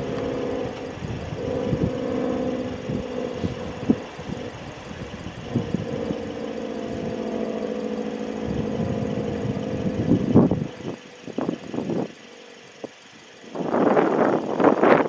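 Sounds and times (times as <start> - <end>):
warning siren drone: 0.0 - 15.0.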